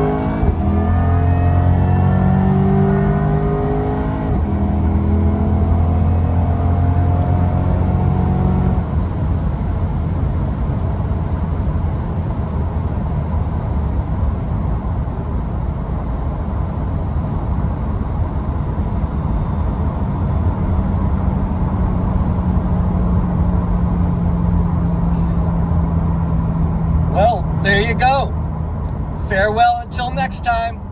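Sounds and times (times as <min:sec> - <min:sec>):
car engine: 0:00.0 - 0:18.8, 0:20.6 - 0:30.9.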